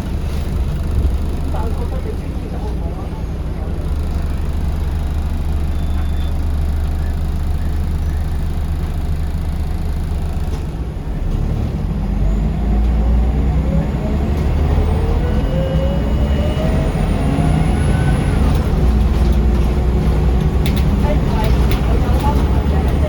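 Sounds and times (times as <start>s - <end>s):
bus engine rumbling: 0.0s - 23.0s.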